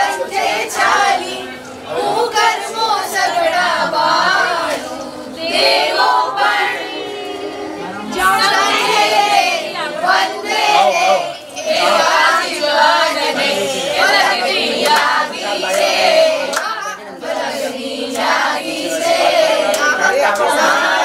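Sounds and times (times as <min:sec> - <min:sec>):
group singing devotional song: 0:00.0 - 0:21.0.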